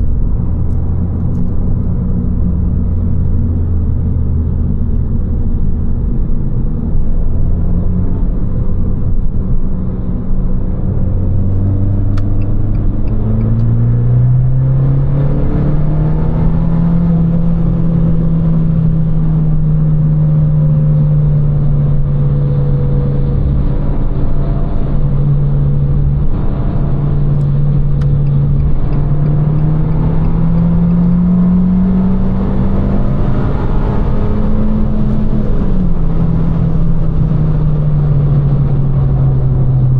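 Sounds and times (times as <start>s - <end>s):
car engine driving: 0.0s - 39.9s.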